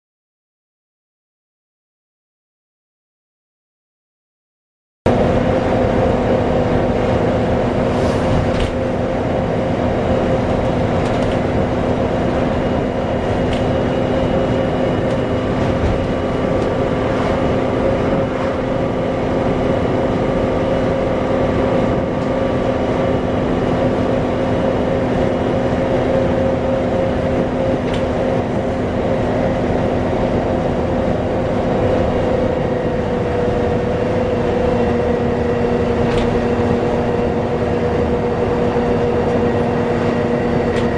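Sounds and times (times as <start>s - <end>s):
bus engine and road rumble: 5.1s - 40.9s
loud hoover-like whine: 5.1s - 40.9s.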